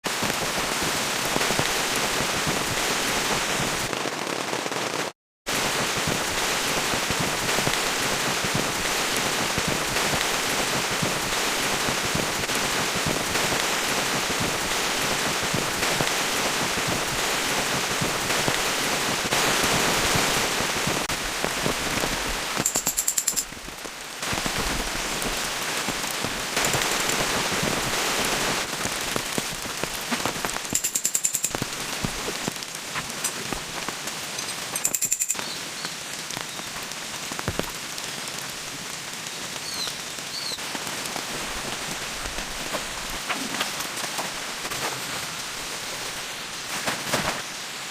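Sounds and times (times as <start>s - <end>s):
heavy rain on a surface: 0.0s - 47.9s.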